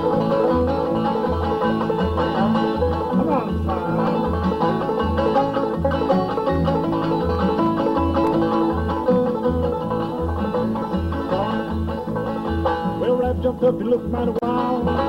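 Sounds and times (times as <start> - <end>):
banjo picking: 0.0 - 15.0
guitar picking: 0.0 - 15.0
steady bass beat: 0.0 - 15.0.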